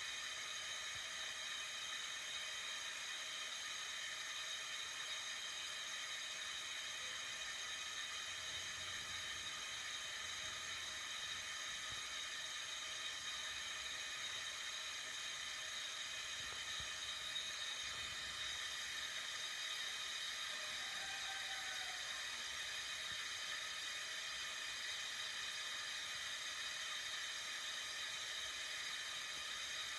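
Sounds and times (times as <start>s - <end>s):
gas burner hissing: 0.0s - 29.9s.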